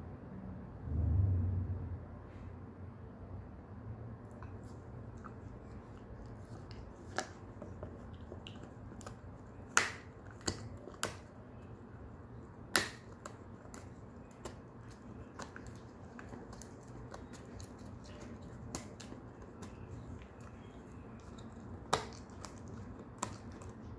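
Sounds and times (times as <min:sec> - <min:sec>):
dog gnawing hard chew: 0:04.4 - 0:23.9.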